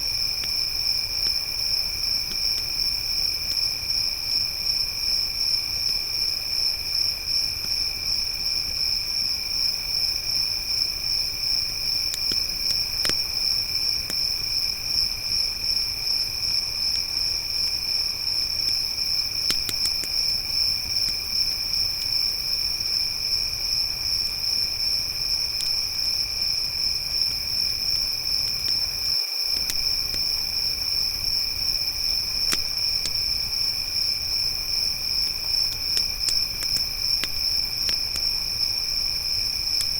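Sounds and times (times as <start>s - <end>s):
campfire crackling pops: 0.0s - 8.9s, 11.1s - 22.6s, 24.8s - 39.9s
crickets chirping: 0.0s - 39.9s.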